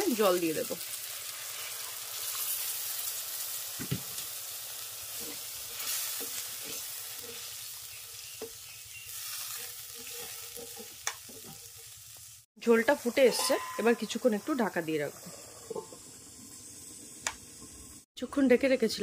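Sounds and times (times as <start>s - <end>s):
food sizzling and hissing in a pan: 0.0s - 18.1s.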